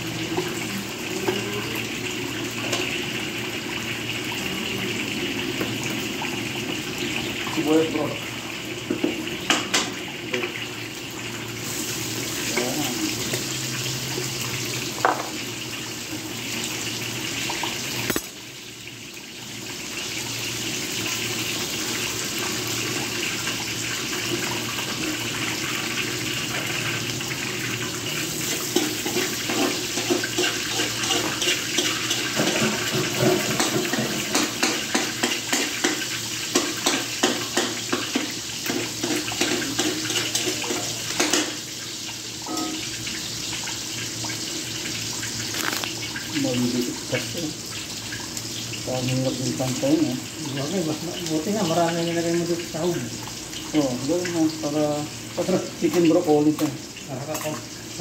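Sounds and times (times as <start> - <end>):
tap water running: 0.0 - 58.0.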